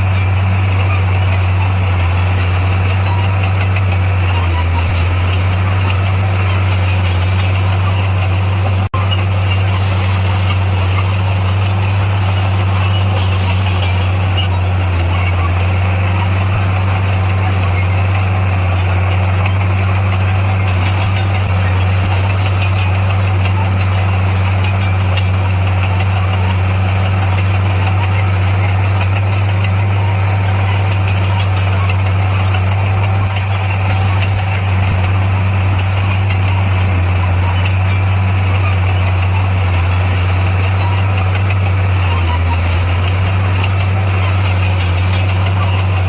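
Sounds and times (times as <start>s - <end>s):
heavy diesel engine droning: 0.0s - 46.0s.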